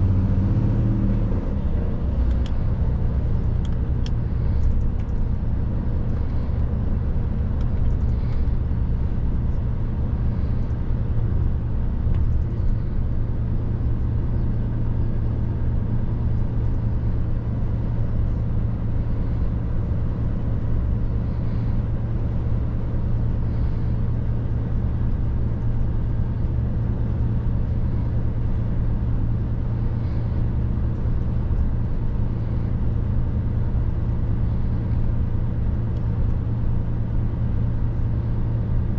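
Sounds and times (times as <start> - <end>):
road noise: 0.0 - 38.9
truck diesel engine droning: 0.0 - 38.9.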